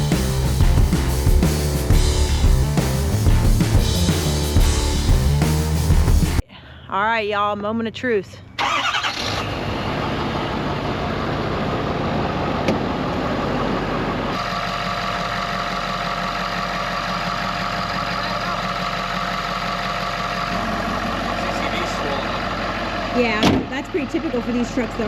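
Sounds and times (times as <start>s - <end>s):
diesel truck engine starting and idling: 0.0s - 6.4s, 8.6s - 25.0s.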